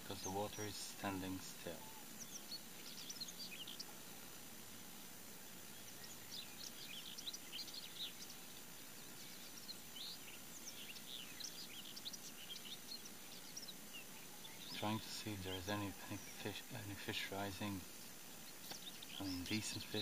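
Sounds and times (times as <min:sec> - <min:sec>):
faint steady hiss: 0:00.0 - 0:20.0
small birds chirping: 0:00.0 - 0:20.0.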